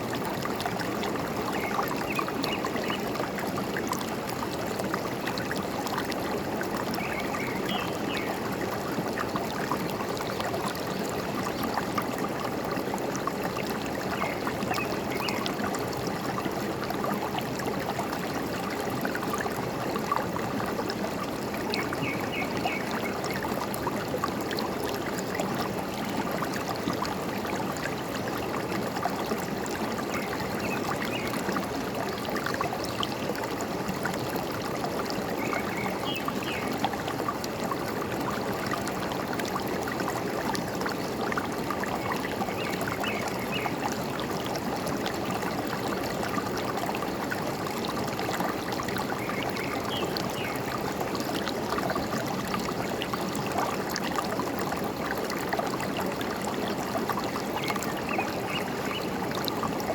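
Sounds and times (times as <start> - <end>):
forest stream trickling: 0.0 - 59.9.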